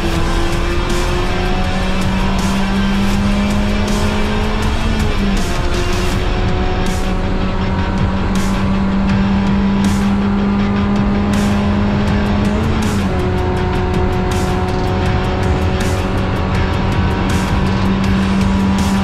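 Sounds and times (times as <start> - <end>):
background music with a beat: 0.0 - 19.0
race car engine at high revs: 0.0 - 19.0.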